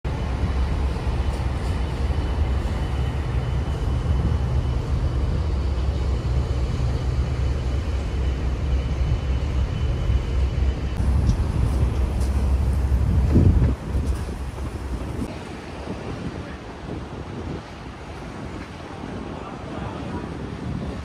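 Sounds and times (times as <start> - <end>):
boat engines: 0.1 - 21.0
moving water: 0.1 - 21.0
wind rumbling on microphone: 0.1 - 21.0.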